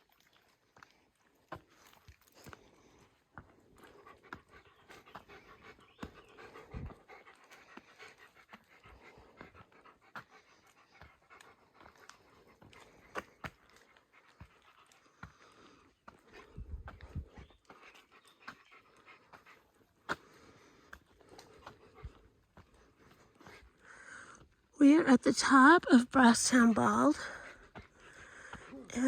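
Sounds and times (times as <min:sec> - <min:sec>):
faint footsteps: 0:00.8 - 0:24.6, 0:26.5 - 0:29.0
person panting: 0:01.6 - 0:17.5, 0:18.8 - 0:24.6, 0:27.1 - 0:29.0.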